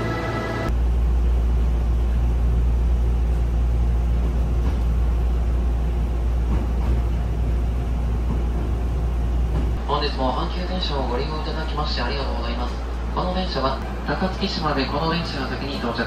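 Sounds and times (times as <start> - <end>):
train rumbling at station: 0.0 - 16.0.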